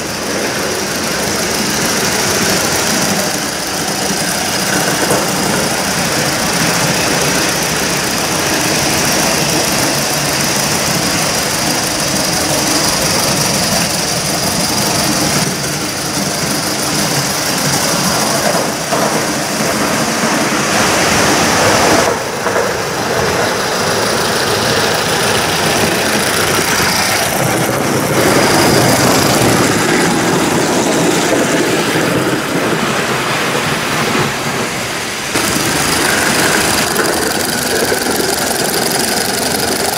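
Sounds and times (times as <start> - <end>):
steam exhaust chuffing: 0.0 - 39.9
wheels rumbling on track: 0.0 - 39.9.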